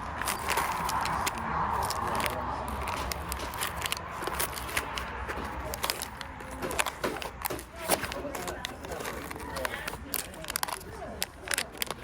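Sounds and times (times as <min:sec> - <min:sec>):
distant voices murmuring: 0:00.0 - 0:12.0.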